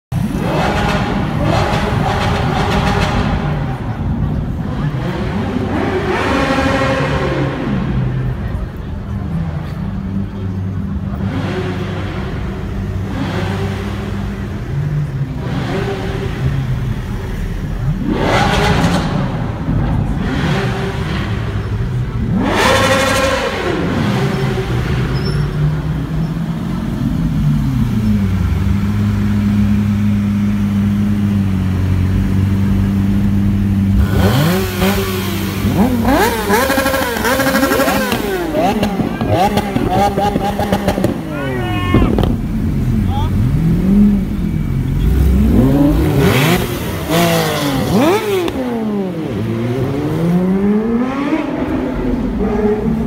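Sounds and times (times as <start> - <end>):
car engines idling and revving: 0.0 - 53.0.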